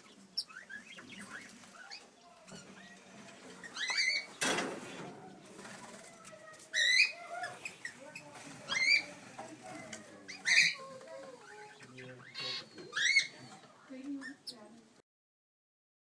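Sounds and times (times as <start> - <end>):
soft bird chatter: 0.0 - 15.0.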